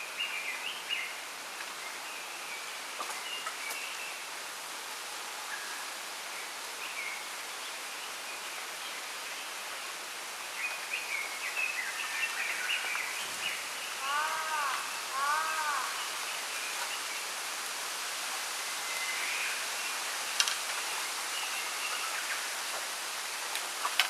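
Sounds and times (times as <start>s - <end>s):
wind rustling bamboo: 0.0s - 24.0s.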